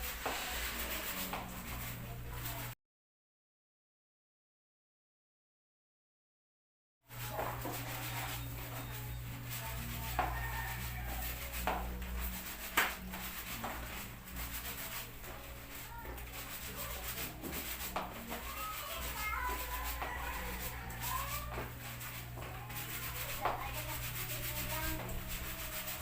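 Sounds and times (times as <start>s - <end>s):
wet fabric scrubbed by hand: 0.0s - 2.8s, 7.1s - 26.0s.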